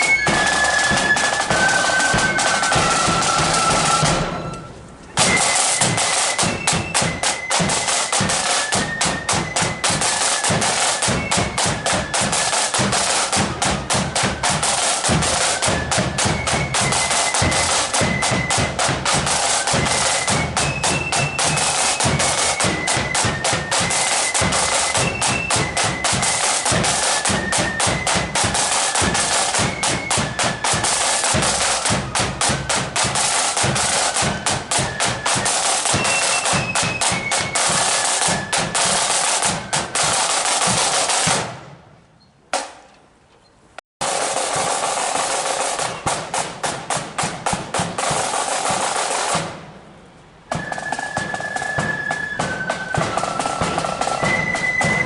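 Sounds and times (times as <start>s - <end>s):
high flute melody: 0.0s - 41.2s, 50.5s - 55.0s
snare drum rolls: 0.0s - 41.8s, 42.5s - 42.9s, 44.0s - 49.9s, 50.5s - 55.0s.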